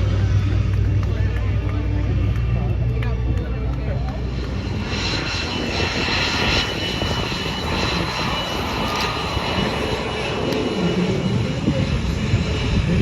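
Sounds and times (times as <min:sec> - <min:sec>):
aircraft engine rushing: 0:00.0 - 0:13.0.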